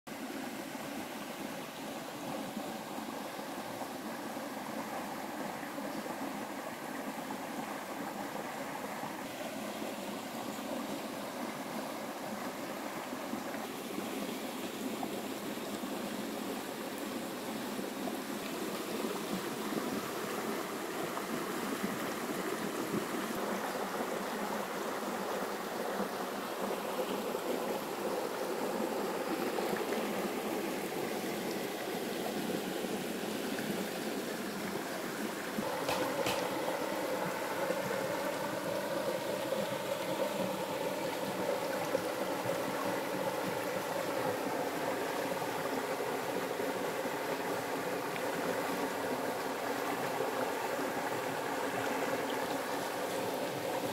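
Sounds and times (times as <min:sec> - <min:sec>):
river babbling over rocks: 0:00.1 - 0:53.9.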